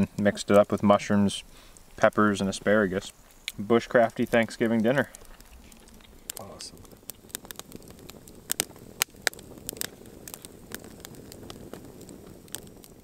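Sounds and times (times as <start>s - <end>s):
campfire crackling and popping: 0.0s - 13.0s
rush of burning logs: 0.0s - 13.0s.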